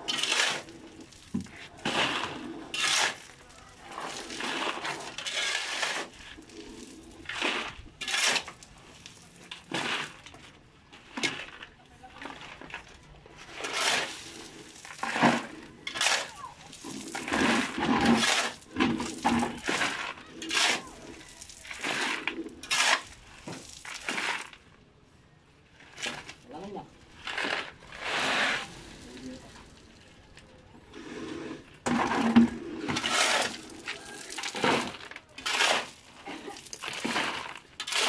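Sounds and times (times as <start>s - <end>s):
shovel scraping into gravel: 0.0s - 10.3s, 13.4s - 24.6s, 27.1s - 29.8s, 30.9s - 38.0s
stones clattering into buckets: 0.0s - 24.7s, 31.5s - 38.0s.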